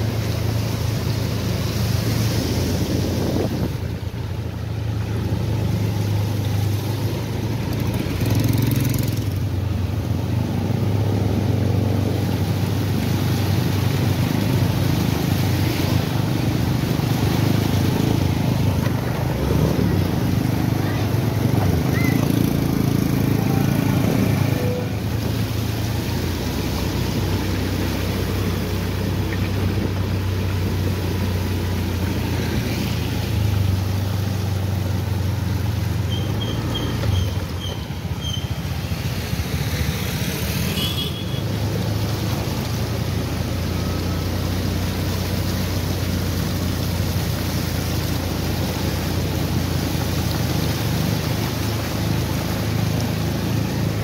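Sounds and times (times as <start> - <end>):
water spray under wheels: 0.0 - 54.0.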